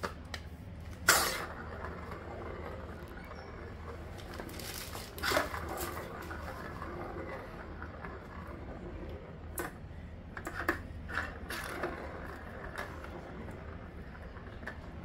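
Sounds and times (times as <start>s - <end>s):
ball rolling in plastic track: 0.0s - 15.0s
low steady hum: 0.0s - 15.0s.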